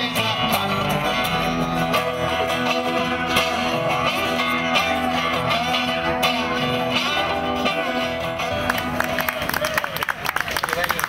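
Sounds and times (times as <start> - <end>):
guitar band music: 0.0 - 10.9.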